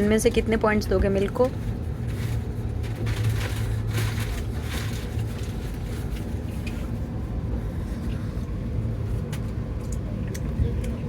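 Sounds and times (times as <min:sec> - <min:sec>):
train rumble inside coach: 0:00.0 - 0:11.0.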